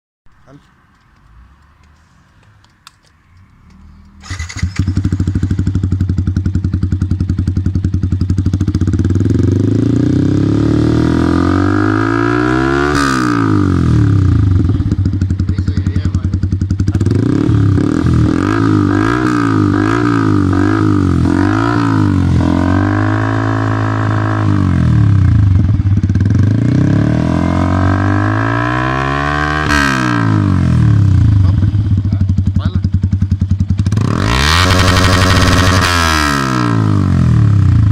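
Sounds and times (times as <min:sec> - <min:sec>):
motorcycle engine revving: 0:03.6 - 0:37.9.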